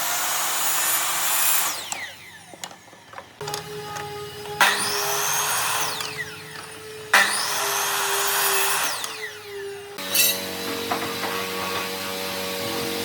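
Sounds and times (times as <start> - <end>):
power tool working wood: 0.0 - 13.0.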